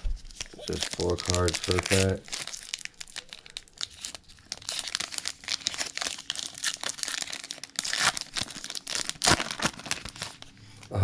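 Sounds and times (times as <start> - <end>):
card pack wrapper crinkling: 0.0 - 10.6.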